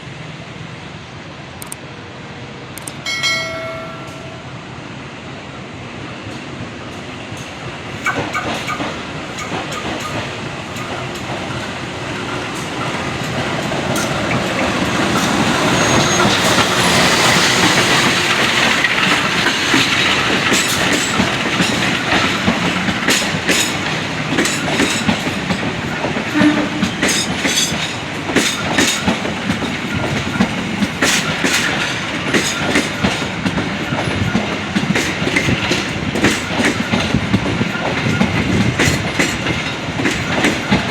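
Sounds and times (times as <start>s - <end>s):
train running noise: 0.0s - 40.9s
train wheels clacking over rail joints: 6.3s - 40.9s.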